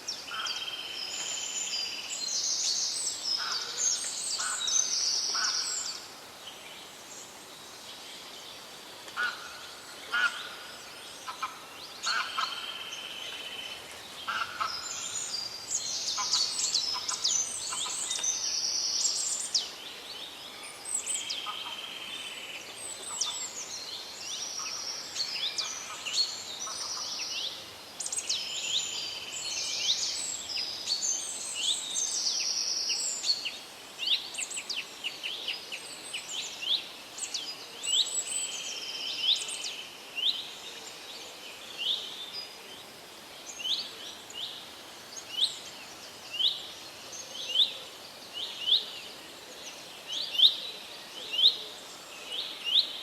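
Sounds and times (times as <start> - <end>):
faint background hiss: 0.0 - 53.0
songbirds singing and calling: 0.0 - 53.0.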